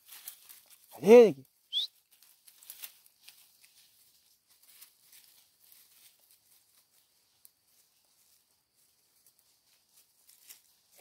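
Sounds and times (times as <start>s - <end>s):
soft ticks and rustles: 0.0s - 11.0s.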